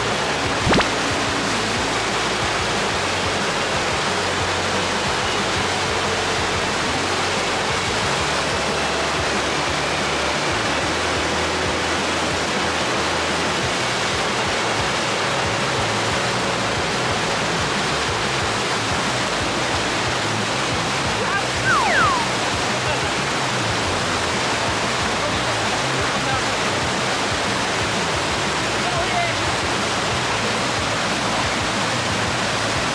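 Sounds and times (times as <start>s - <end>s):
water rushing over weir: 0.0s - 32.9s.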